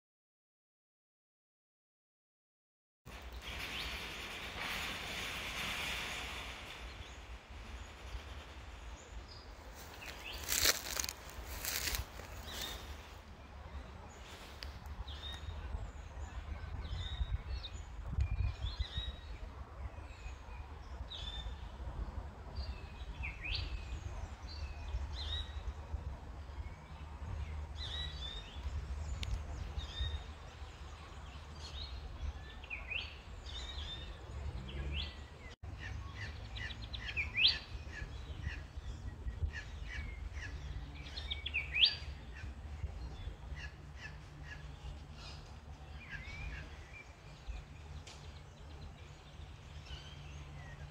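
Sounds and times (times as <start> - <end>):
wild birds chirping: 3.1 - 50.9
steady low rumble: 3.2 - 50.9.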